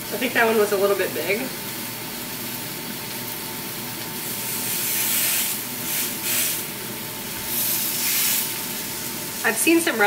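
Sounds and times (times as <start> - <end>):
patties sizzling on a griddle: 0.0 - 10.0.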